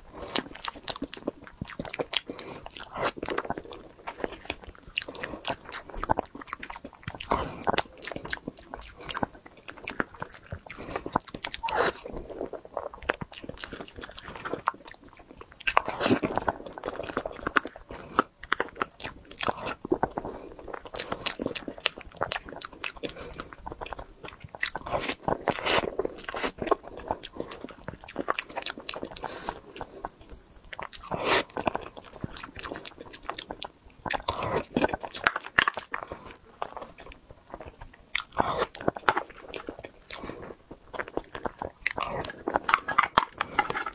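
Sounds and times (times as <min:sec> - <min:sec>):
chewing: 0:00.0 - 0:43.9.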